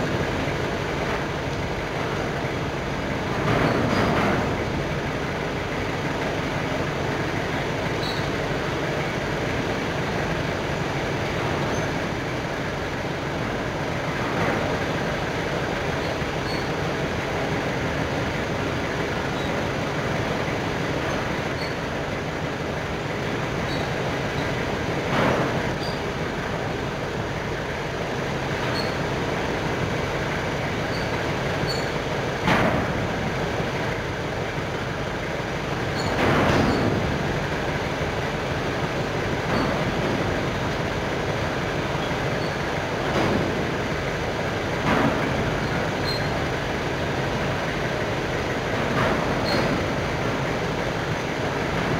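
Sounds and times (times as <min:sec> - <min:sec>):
belt conveyor running: 0:00.0 - 0:51.9.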